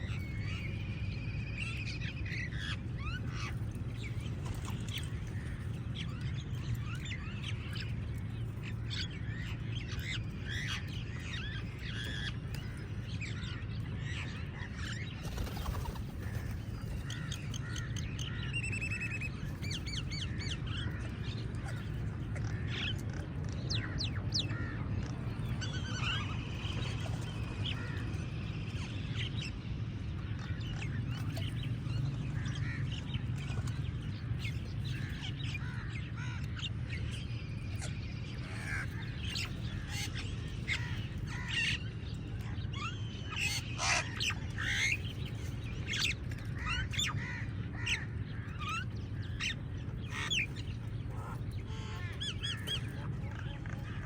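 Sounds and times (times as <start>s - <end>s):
birds chirping: 0.0s - 54.0s
low background rumble: 0.0s - 54.0s.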